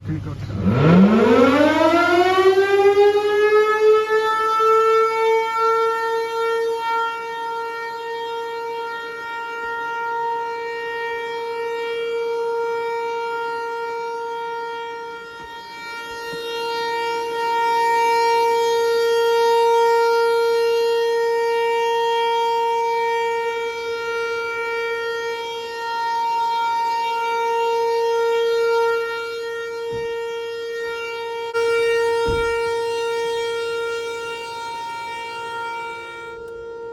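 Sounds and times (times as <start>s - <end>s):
outdoor warning siren: 0.0s - 36.9s.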